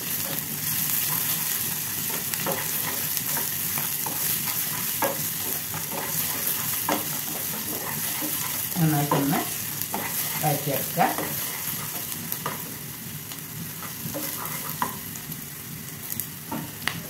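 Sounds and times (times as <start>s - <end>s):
vegetables sizzling in oil: 0.0s - 17.0s
spatula knocking and scraping pan: 1.0s - 12.8s, 13.8s - 15.1s, 16.5s - 17.0s.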